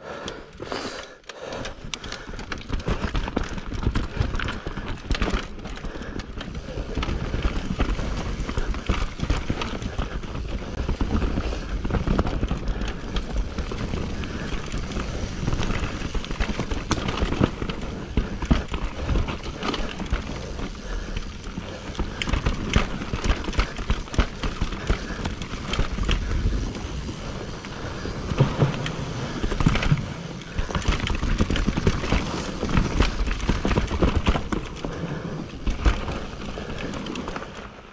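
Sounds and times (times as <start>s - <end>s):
bike rattling and clattering: 0.0s - 37.9s
bike tyres on dirt: 0.0s - 37.9s.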